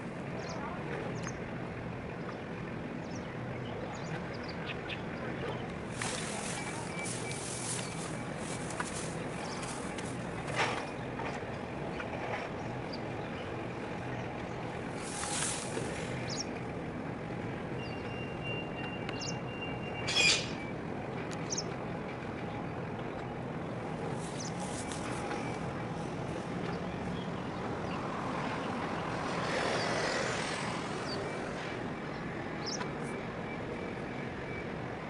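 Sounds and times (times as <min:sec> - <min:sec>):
harbour background noise: 0:00.0 - 0:35.0.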